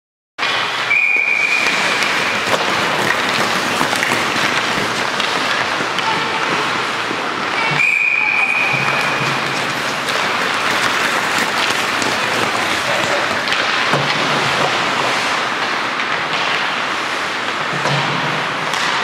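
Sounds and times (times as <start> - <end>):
hockey sticks and pucks clacking: 0.4 - 19.0
skates on ice: 0.4 - 19.0.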